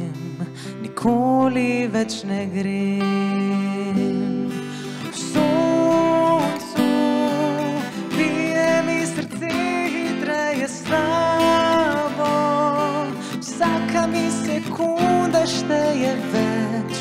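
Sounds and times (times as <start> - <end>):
acoustic guitar strumming: 0.0 - 17.0
man singing: 0.0 - 17.0.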